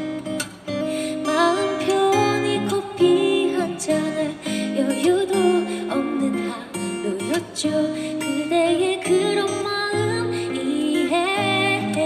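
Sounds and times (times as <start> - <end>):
strummed acoustic guitar: 0.0 - 12.0
woman singing into microphone: 1.1 - 12.0.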